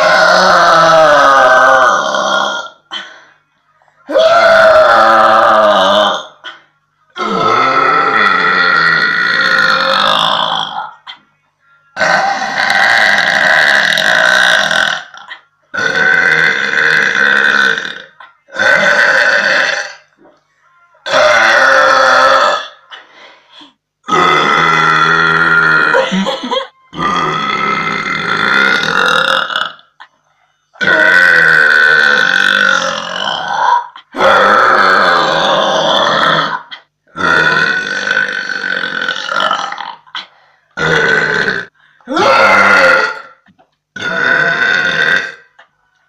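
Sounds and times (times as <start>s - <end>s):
woman burping loudly: 0.0s - 3.1s, 4.1s - 11.2s, 12.0s - 20.4s, 21.0s - 23.1s, 24.0s - 30.2s, 30.8s - 45.7s.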